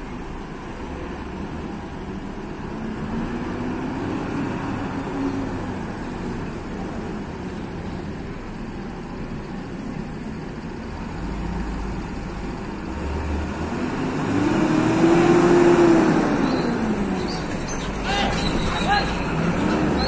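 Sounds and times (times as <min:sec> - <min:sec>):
bus diesel engine accelerating: 0:00.0 - 0:20.0.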